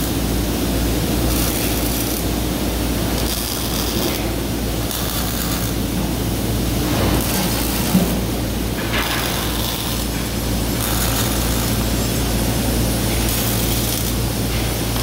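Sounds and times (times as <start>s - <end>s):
low electrical hum: 0.0s - 15.0s
welding arc crackling and hissing: 0.0s - 15.0s.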